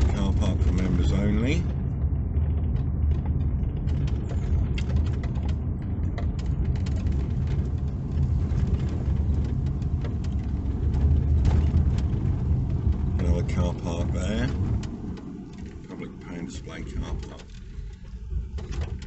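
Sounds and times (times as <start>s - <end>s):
engine and road rumble: 0.0s - 19.0s
light rattling clicks: 0.0s - 19.0s.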